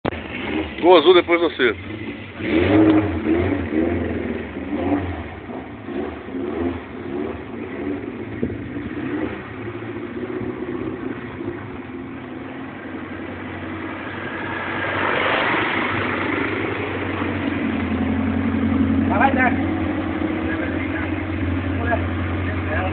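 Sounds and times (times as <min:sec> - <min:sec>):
car engine revving: 0:00.1 - 0:22.9.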